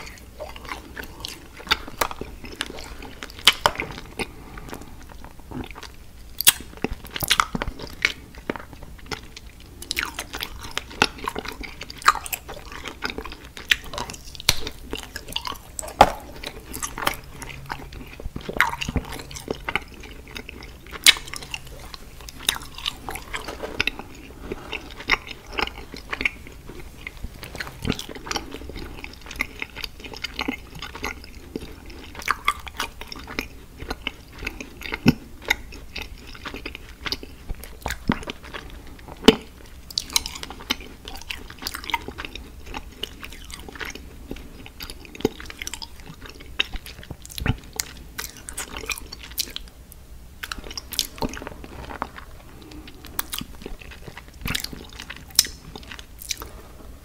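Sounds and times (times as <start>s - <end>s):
candy being chewed and crunched: 0.0s - 57.0s.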